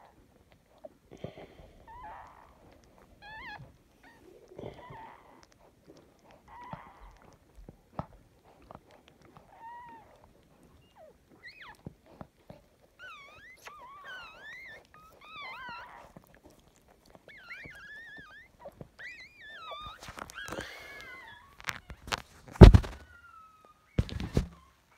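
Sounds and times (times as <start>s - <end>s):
newborn puppies squealing: 0.0s - 24.9s.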